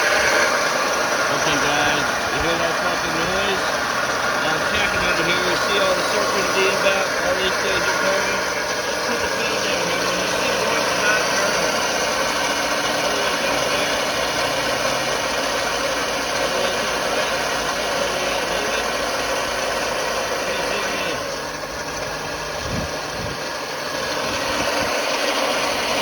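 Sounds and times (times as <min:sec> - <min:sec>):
car engine idling: 0:00.0 - 0:26.0
drive belt sliding on pulley: 0:00.0 - 0:26.0.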